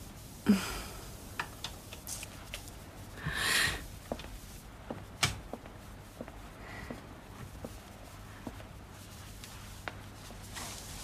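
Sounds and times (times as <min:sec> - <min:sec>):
soft footsteps: 0:01.8 - 0:11.0.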